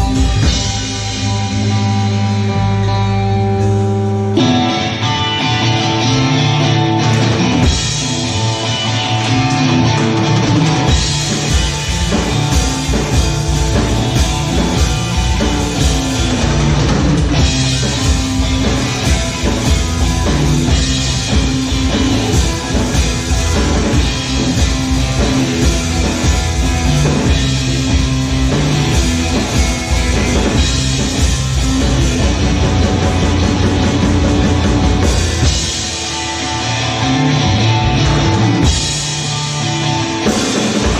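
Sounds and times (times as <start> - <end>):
drum kit: 0.0 - 40.9
electric guitar: 0.0 - 40.9
psychedelic rock band playing: 0.0 - 40.9.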